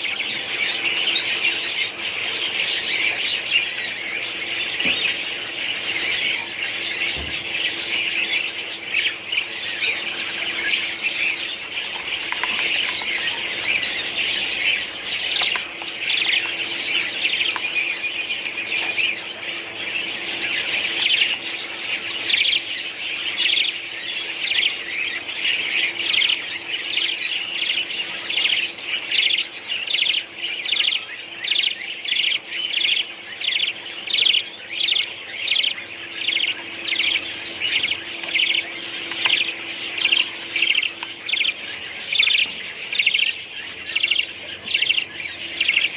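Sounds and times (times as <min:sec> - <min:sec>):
budgerigars chattering: 0:00.0 - 0:45.9
sharp bird chirps: 0:00.0 - 0:45.9.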